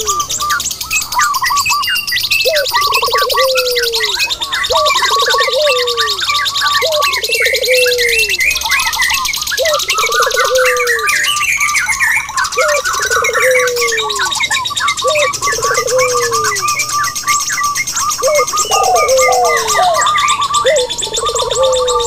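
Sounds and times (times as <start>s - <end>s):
bird trilling: 0.0s - 22.0s
dense bird chirping: 0.0s - 22.0s
dove cooing: 0.0s - 22.0s
fast high bird trill: 0.0s - 22.0s.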